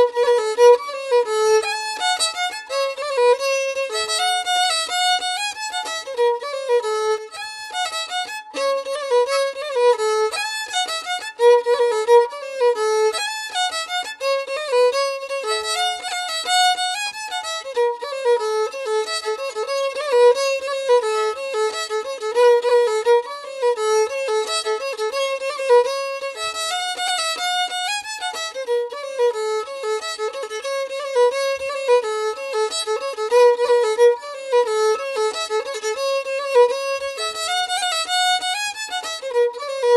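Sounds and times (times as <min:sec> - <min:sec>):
solo fiddle melody: 0:00.0 - 0:39.9.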